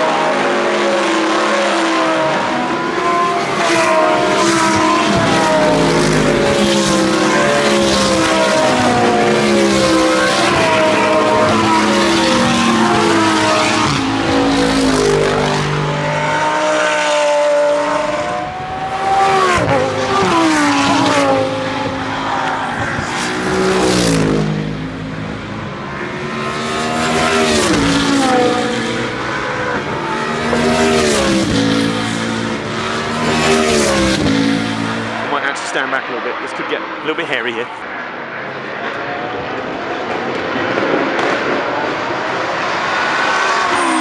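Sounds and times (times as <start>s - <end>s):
race cars passing at speed: 0.0s - 44.0s.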